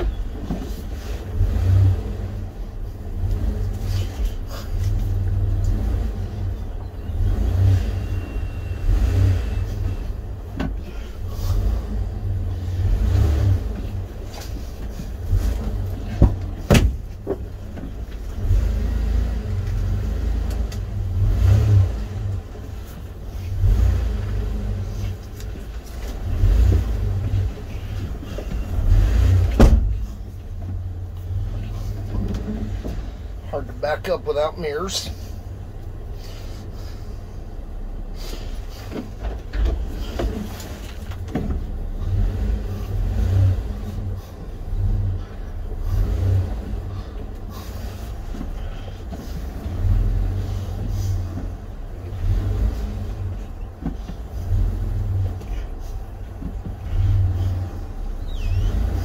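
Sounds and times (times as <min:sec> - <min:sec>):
truck engine running at low speed: 0:00.0 - 0:59.0.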